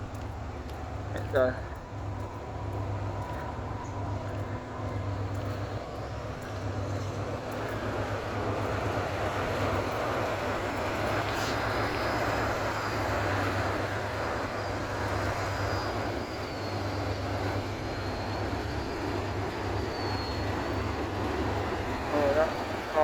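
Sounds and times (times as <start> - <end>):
ship engines droning: 0.0 - 23.0.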